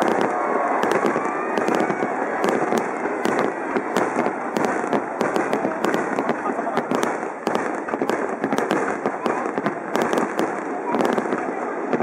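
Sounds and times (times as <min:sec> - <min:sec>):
continuous noisy wash: 0:00.0 - 0:12.0
firework shells bursting: 0:00.0 - 0:12.0.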